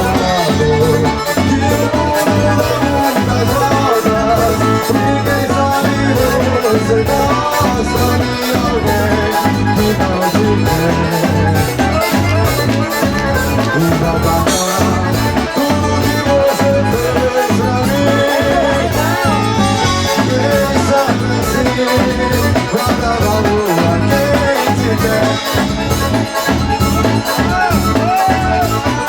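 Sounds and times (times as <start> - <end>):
accordion: 0.0 - 29.0
pulsing bass line: 0.0 - 29.0
quick percussion beat: 0.0 - 29.0.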